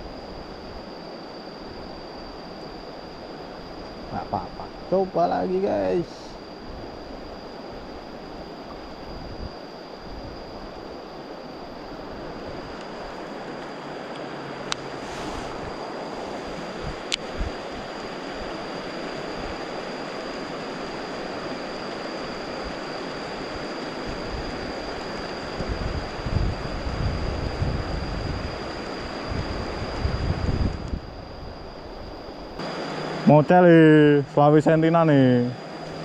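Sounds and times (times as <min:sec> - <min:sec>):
rushing outdoor noise: 0:00.0 - 0:36.0.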